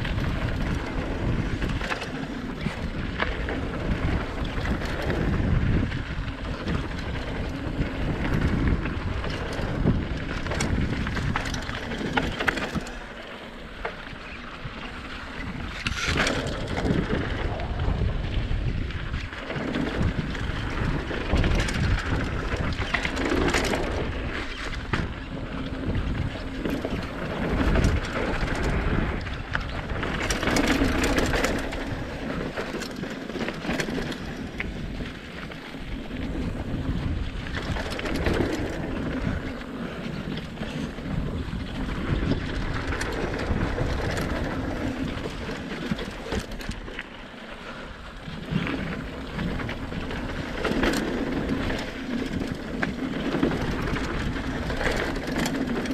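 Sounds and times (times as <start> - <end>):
wind on microphone: 0.0 - 13.1, 14.0 - 55.9
bike clicking and rattling: 0.0 - 55.9
tyres rolling on gravel: 0.0 - 55.9.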